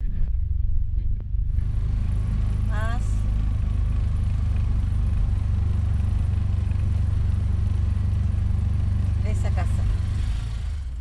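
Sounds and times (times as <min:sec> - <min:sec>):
engine droning inside cab: 0:00.0 - 0:11.0.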